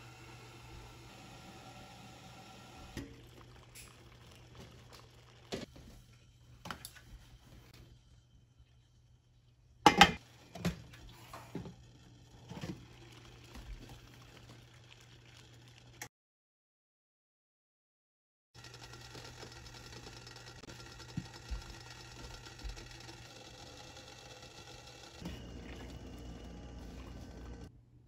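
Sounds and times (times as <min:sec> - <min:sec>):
water boiling hum: 0:00.0 - 0:16.1, 0:18.6 - 0:27.7.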